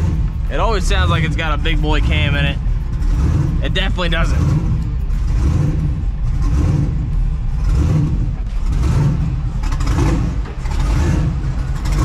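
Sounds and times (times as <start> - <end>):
car engine idling unevenly: 0.0 - 12.0.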